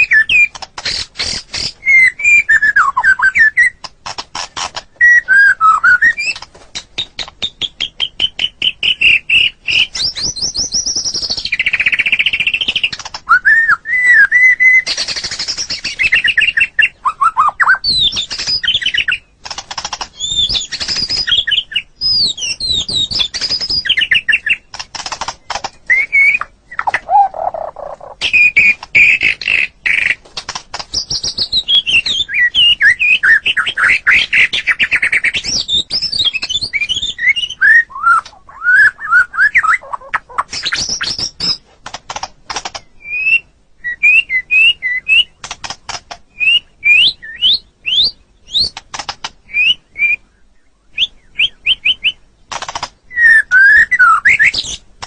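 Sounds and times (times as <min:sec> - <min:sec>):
bird singing whistles and trills: 0:00.0 - 0:03.8, 0:04.9 - 0:19.4, 0:20.1 - 0:24.7, 0:25.5 - 0:30.2, 0:30.9 - 0:41.6, 0:42.8 - 0:45.4, 0:46.3 - 0:48.8, 0:49.4 - 0:52.2, 0:53.1 - 0:54.8.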